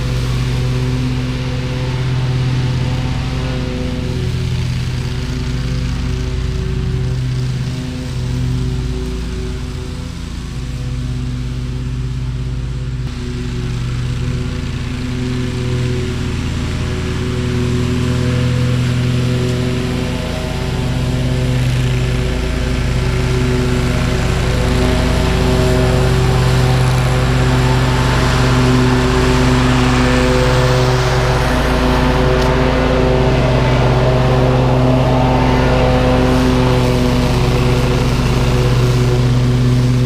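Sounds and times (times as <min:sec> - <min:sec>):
lawn mower engine cutting grass: 0:00.0 - 0:40.0.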